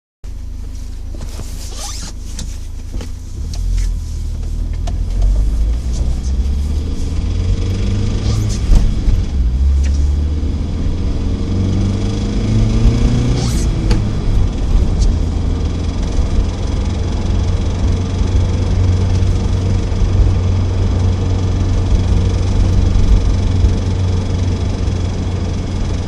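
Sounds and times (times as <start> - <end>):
engine accelerating: 1.2 - 26.0
engine knocking: 4.4 - 26.0.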